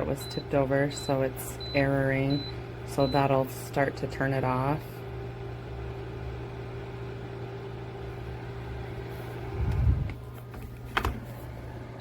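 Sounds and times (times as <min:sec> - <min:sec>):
heater fan humming: 0:00.0 - 0:12.0.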